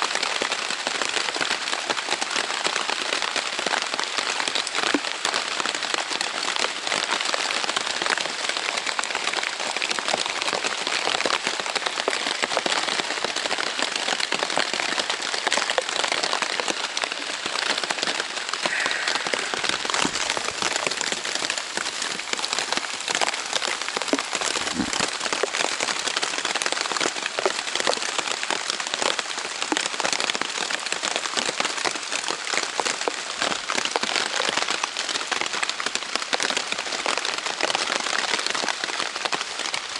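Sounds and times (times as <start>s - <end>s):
heavy rain on tent fabric: 0.0s - 39.9s.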